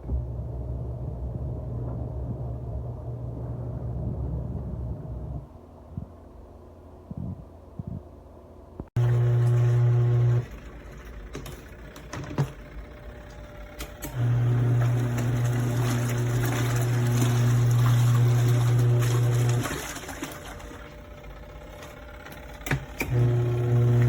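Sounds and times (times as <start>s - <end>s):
washing machine motor humming: 0.0s - 6.3s, 9.0s - 24.0s.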